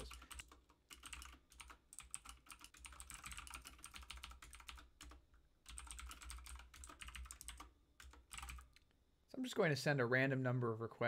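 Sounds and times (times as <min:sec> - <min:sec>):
keyboard typing: 0:00.0 - 0:08.9.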